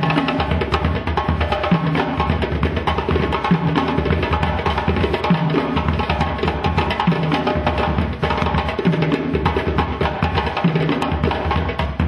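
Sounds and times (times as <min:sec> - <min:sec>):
fast dense drumming: 0:00.0 - 0:12.0.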